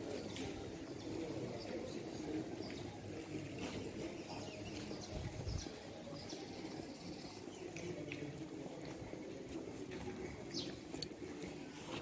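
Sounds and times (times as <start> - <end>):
birds chirping: 0.0 - 9.4, 10.2 - 12.0.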